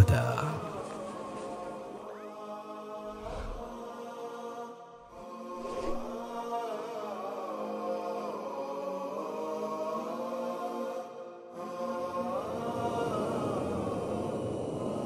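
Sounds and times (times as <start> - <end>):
slow wordless vocal chant: 0.0 - 15.0.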